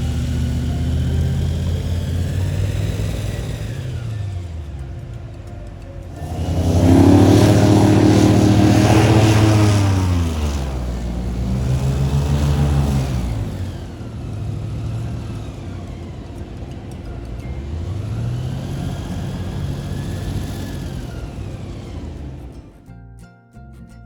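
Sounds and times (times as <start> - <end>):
airboat engine revving: 0.0 - 22.8.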